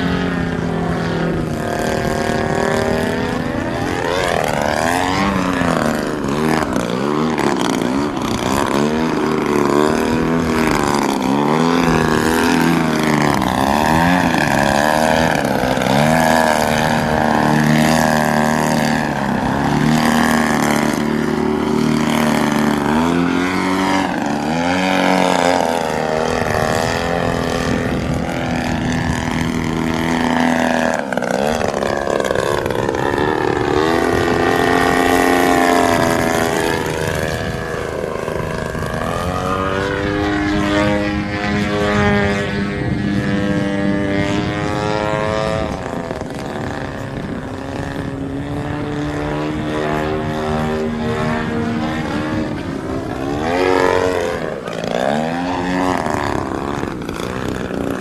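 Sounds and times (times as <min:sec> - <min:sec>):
model plane engine and propeller: 0:00.0 - 0:58.0.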